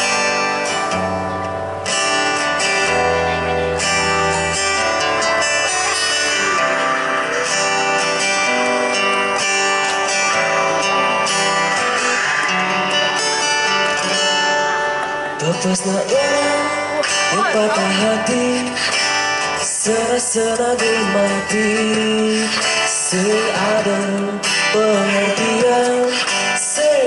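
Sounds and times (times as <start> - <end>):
acoustic-electric guitar playing: 0.0 - 27.0.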